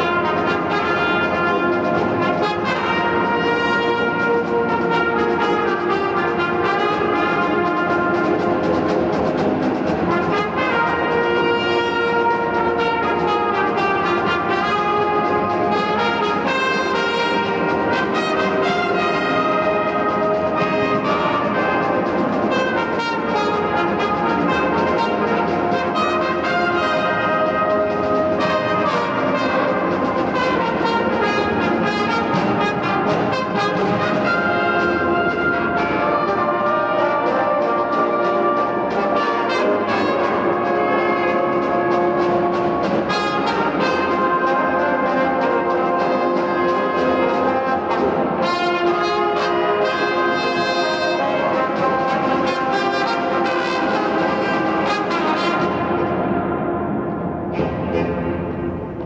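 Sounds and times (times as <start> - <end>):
marching band playing: 0.0 - 59.0.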